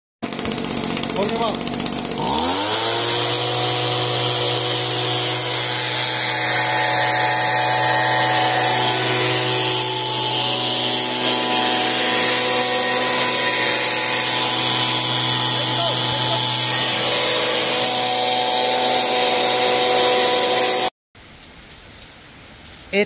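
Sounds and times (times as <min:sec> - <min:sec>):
motor humming and whining: 0:00.3 - 0:20.9.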